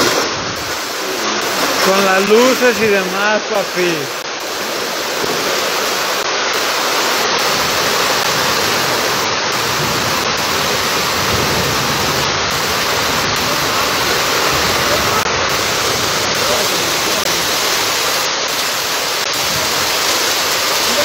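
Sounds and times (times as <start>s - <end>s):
heavy rain falling: 0.0s - 21.0s
runoff water flowing: 0.0s - 21.0s.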